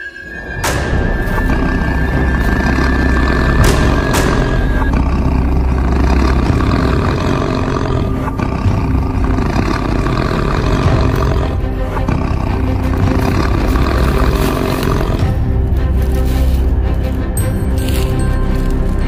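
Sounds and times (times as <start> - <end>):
background music: 0.0 - 19.0
tiger roaring: 0.2 - 16.8.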